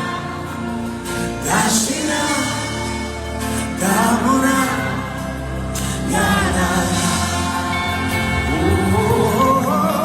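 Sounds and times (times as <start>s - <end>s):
sustained chords: 0.0s - 10.0s
voices singing worship music: 0.0s - 10.0s.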